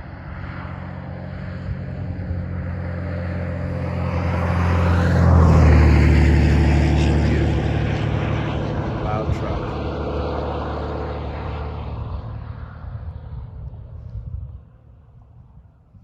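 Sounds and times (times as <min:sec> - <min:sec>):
motor vehicle passing: 0:00.6 - 0:13.8.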